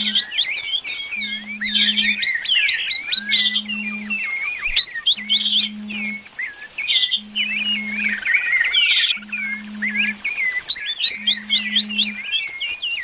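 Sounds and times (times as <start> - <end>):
low steady hum: 0.0 - 12.7
small birds chirping: 0.0 - 13.0.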